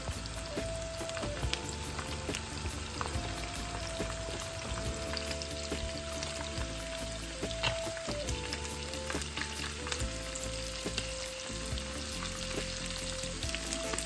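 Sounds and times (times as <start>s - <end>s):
dumplings sizzling in hot oil: 0.0s - 14.0s.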